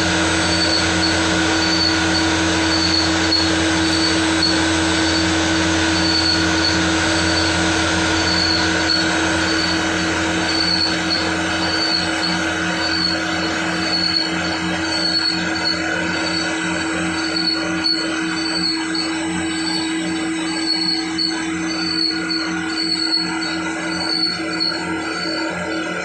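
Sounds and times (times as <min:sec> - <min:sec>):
high squealing tone: 0:00.0 - 0:25.4
lathe mechanical whine: 0:00.0 - 0:26.0.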